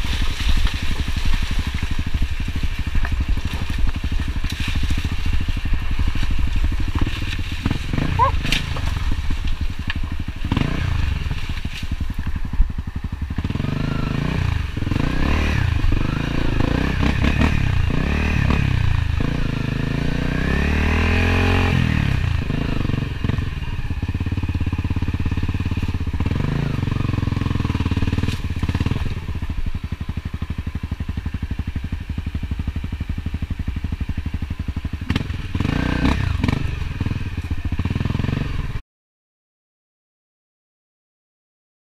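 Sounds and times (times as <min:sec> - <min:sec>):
dirt bike engine revving: 0:00.0 - 0:38.8.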